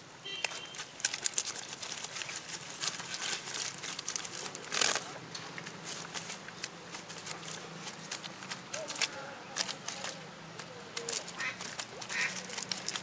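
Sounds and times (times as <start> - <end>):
net and wet fish rustling: 0.1 - 13.0.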